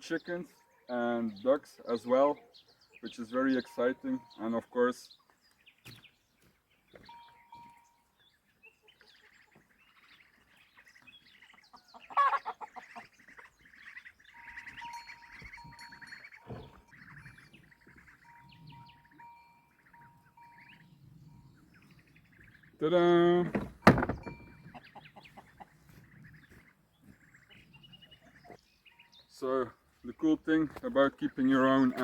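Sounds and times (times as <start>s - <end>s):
birds chirping: 0.0s - 32.0s
chickens calling: 0.0s - 32.0s.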